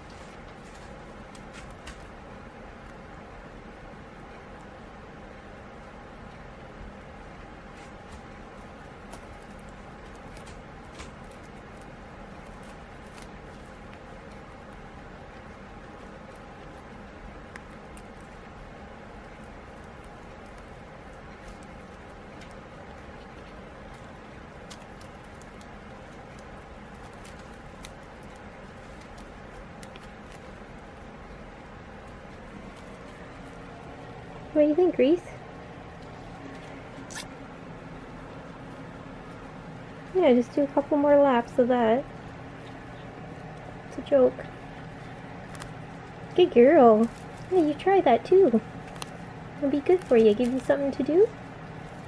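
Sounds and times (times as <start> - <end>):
guinea pig nibbling grass mat: 0.0 - 52.0
low room hum: 0.0 - 52.0.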